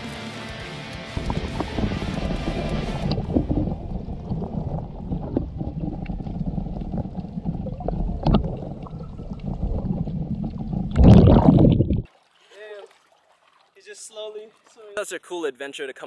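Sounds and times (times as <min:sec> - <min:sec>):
underwater slosh and gurgle: 0:01.2 - 0:15.0.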